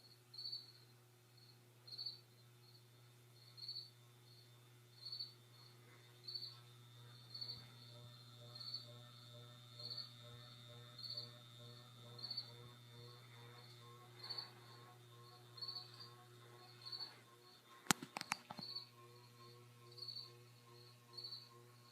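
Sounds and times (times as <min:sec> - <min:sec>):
ceiling fan motor hum: 0:00.0 - 0:21.9.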